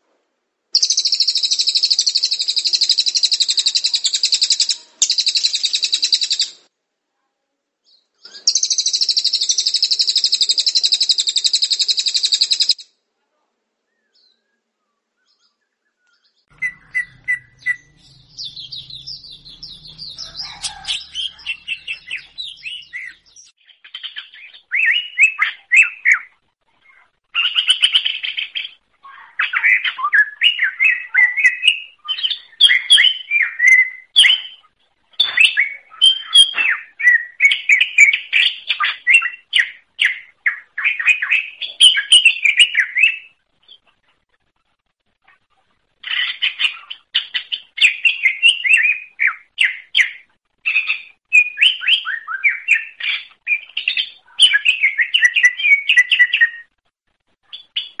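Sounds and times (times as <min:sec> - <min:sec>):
songbird singing: 0:00.8 - 0:06.6, 0:07.8 - 0:12.9, 0:13.8 - 0:44.0, 0:46.0 - 0:56.8.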